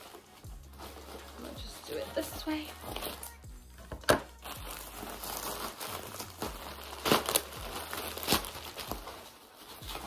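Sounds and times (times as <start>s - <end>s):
plastic mailer bag crinkling: 0.0s - 3.4s, 4.3s - 10.0s.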